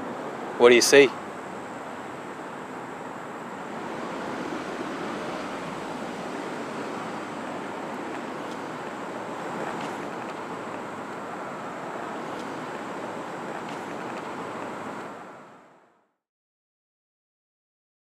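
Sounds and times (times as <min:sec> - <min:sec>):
steady rushing noise: 0:00.0 - 0:15.9.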